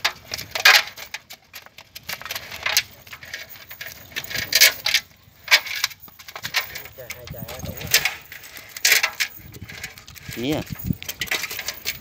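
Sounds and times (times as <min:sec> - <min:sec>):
clicks and rustling: 0:00.0 - 0:12.0.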